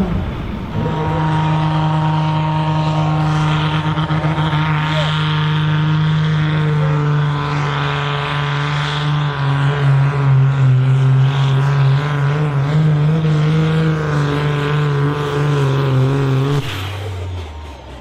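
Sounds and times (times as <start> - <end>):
tractor engine under full load: 0.0 - 18.0.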